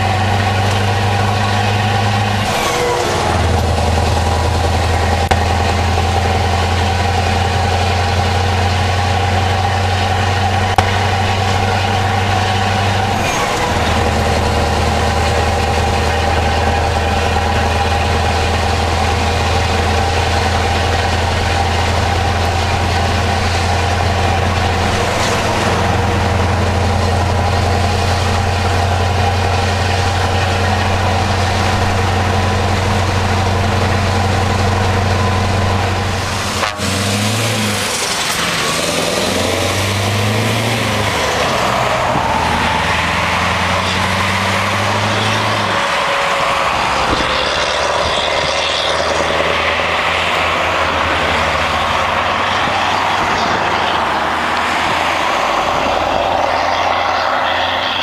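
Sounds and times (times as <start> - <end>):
diesel truck engine running: 0.0 - 58.0
passing road traffic: 0.0 - 58.0.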